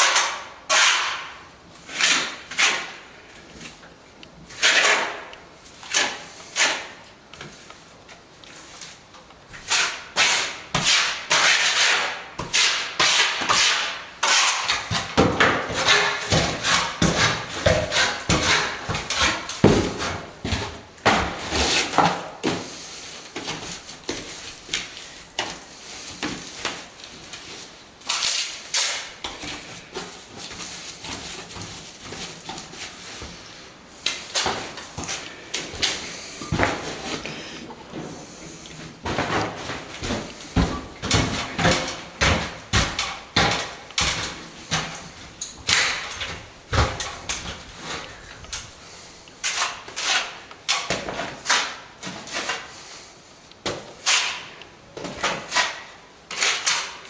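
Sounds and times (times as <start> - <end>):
plastering tool scraping: 0.0 - 3.1, 4.5 - 7.0, 9.6 - 53.1, 54.0 - 57.0.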